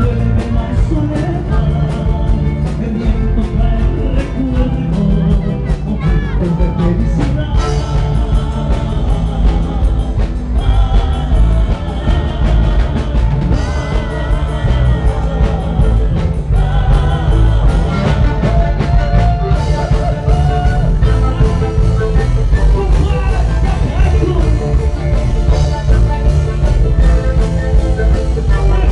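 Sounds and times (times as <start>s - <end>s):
drums: 0.0s - 28.9s
heavy bass line: 0.0s - 28.9s
person singing: 0.0s - 28.9s.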